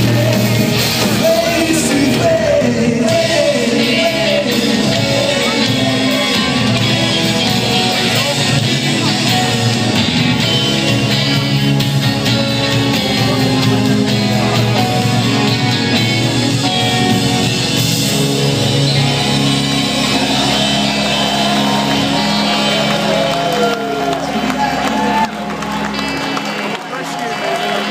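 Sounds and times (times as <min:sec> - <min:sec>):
electric guitar: 0:00.0 - 0:27.9
rock band playing live: 0:00.0 - 0:27.9.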